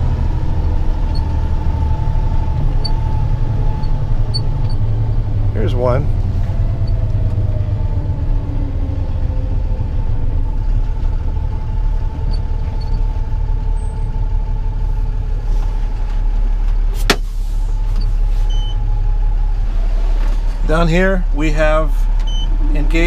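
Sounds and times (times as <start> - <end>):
diesel engine low rumble: 0.0 - 23.0.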